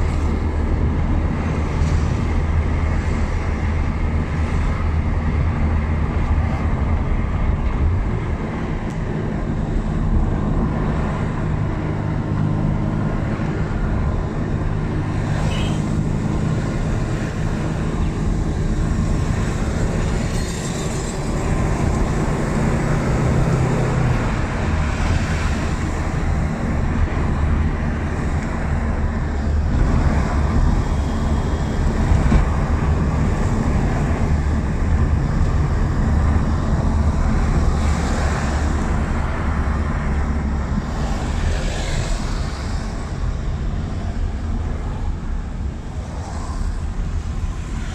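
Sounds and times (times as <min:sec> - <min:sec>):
car engine hum: 0:00.0 - 0:47.9.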